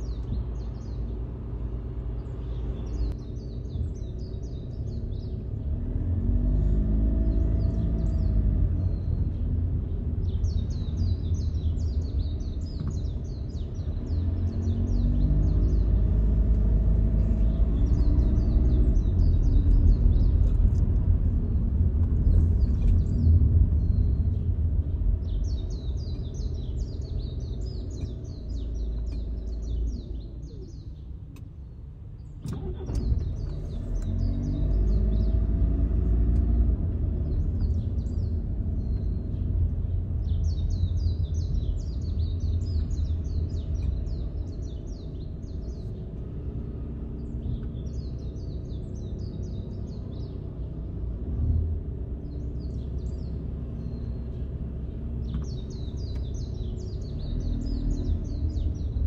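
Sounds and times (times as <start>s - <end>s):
car engine and road noise: 0.0s - 59.0s
small birds chirping: 0.0s - 59.0s.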